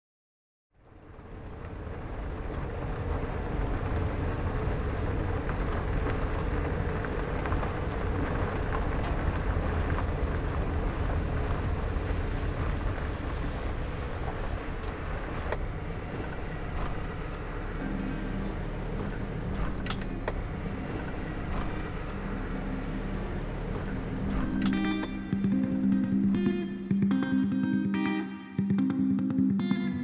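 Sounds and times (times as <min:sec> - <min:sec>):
car engine and road rumble: 0:00.8 - 0:27.4.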